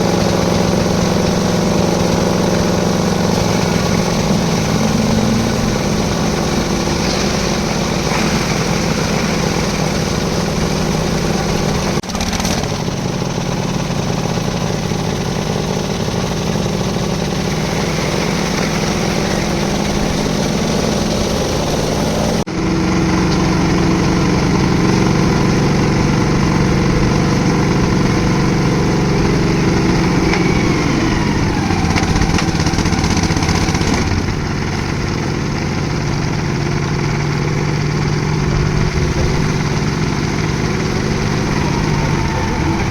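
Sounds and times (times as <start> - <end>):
concrete mixer engine running: 0.0 - 42.9.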